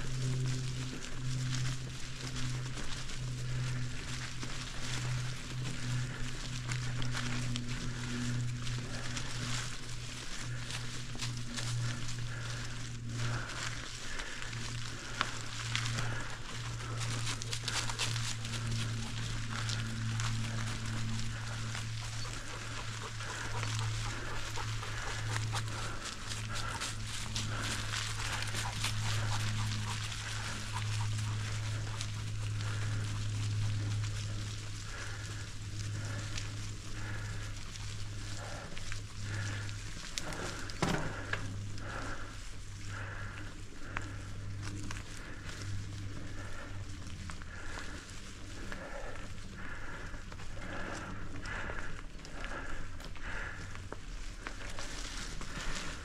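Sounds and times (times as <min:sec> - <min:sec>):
bicycle rolling on dirt: 0:00.0 - 0:56.0
dog panting: 0:00.1 - 0:53.6.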